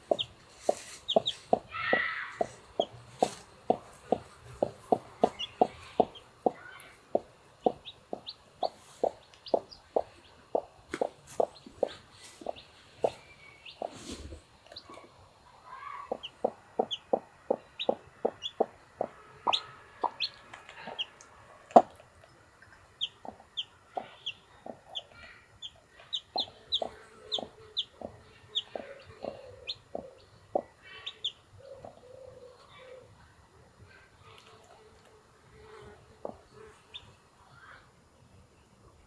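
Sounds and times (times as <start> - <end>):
hen clucking: 0.0 - 15.1, 15.8 - 22.0, 22.9 - 33.0, 35.6 - 37.1
chicks peeping: 0.0 - 15.2, 16.0 - 32.7, 34.4 - 37.2.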